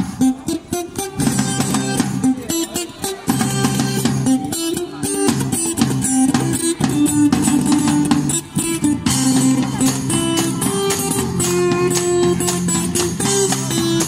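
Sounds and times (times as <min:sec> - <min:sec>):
live band music with guitars: 0:00.0 - 0:14.0.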